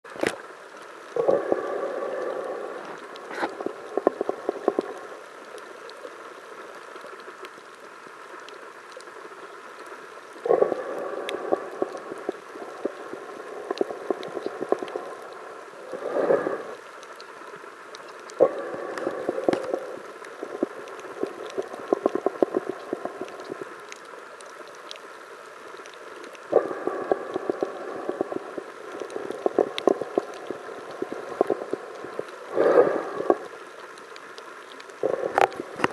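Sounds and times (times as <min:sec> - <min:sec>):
steady underwater hiss: 0:00.1 - 0:35.9
underwater bubbling and rushing: 0:00.1 - 0:35.9.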